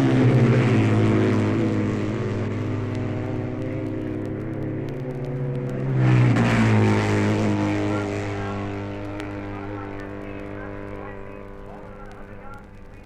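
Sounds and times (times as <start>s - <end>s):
racing motorcycle passing by: 0.0s - 12.2s
steady engine drone: 0.0s - 13.0s
vinyl record crackle: 0.0s - 13.0s.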